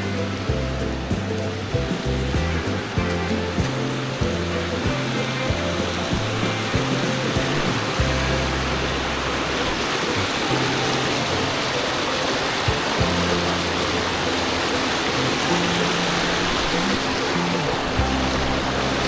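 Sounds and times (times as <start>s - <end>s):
background music with bass: 0.0s - 19.0s
flowing water rushing: 0.0s - 19.0s.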